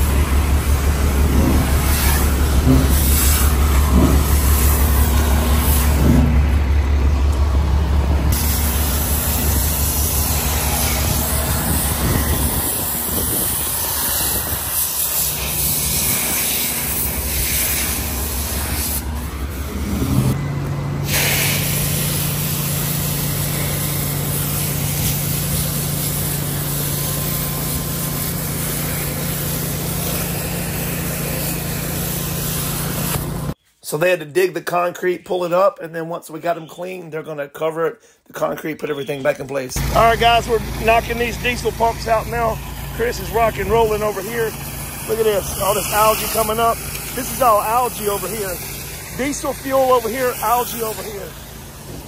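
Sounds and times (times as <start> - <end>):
high-pressure water spraying: 0.0 - 6.6, 8.3 - 20.4, 21.0 - 33.6, 39.8 - 52.0
pressure washer engine drone: 0.0 - 33.6, 39.8 - 52.0.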